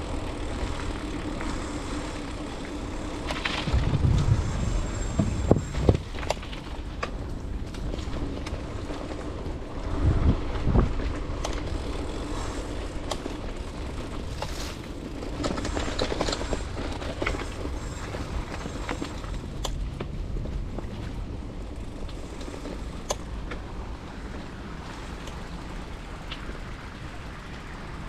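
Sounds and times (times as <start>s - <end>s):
bike rattling and clicking: 0.0s - 28.0s
bike tyres on packed earth: 0.0s - 28.0s.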